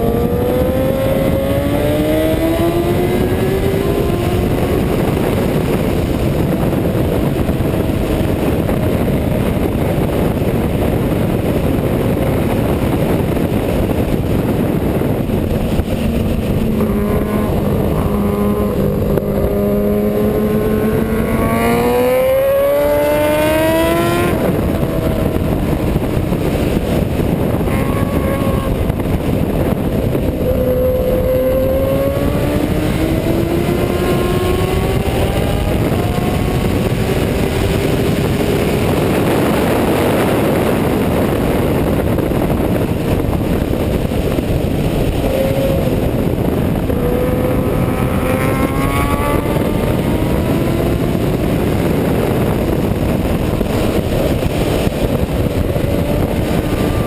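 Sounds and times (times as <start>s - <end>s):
motorcycle engine accelerating: 0.0s - 57.0s
wind noise on microphone: 0.0s - 57.0s.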